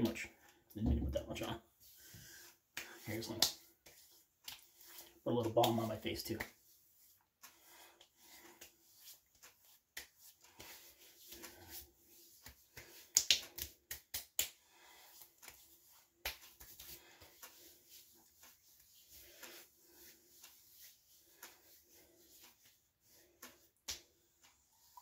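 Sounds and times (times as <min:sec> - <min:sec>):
hands rubbing skin: 0:01.7 - 0:25.0
palms slapping skin: 0:02.5 - 0:24.6.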